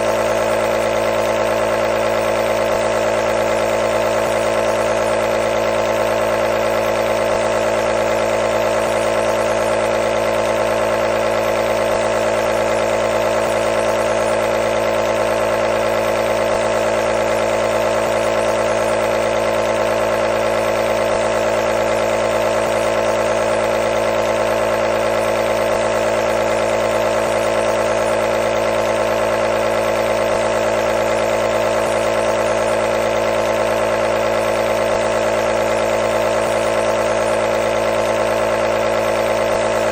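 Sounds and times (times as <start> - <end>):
nebulizer compressor humming: 0.0 - 39.9.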